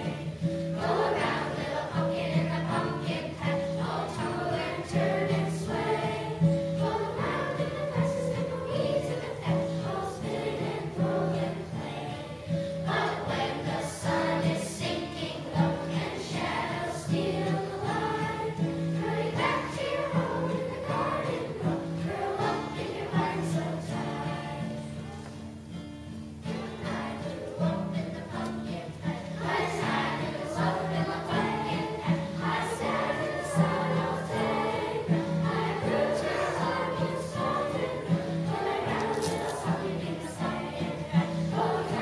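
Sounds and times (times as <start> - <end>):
acoustic guitar: 0.0 - 42.0
children's choir singing: 0.0 - 42.0.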